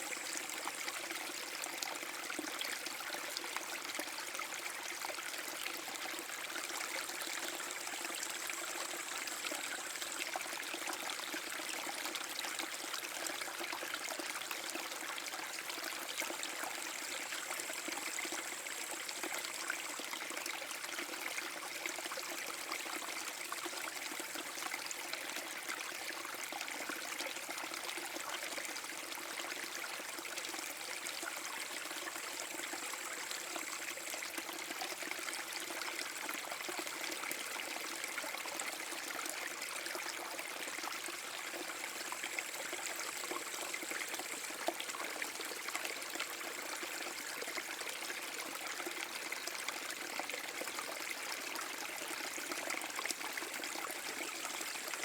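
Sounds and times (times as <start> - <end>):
brook waterfall splashing over stones: 0.0 - 55.0.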